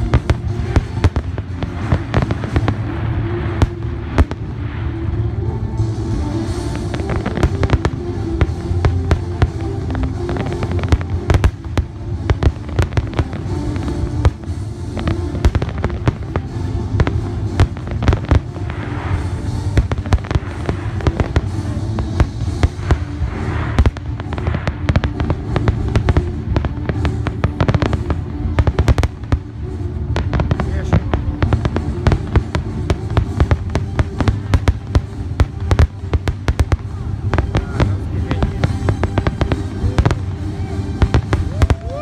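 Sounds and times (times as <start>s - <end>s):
hissing crackle of fireworks: 0.0s - 42.0s
low rumble: 0.0s - 42.0s.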